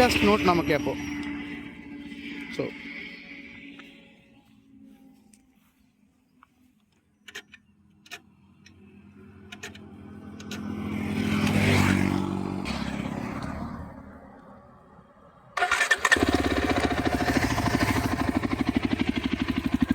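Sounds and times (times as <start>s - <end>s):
vehicle engine: 0.0s - 5.7s, 7.2s - 19.9s.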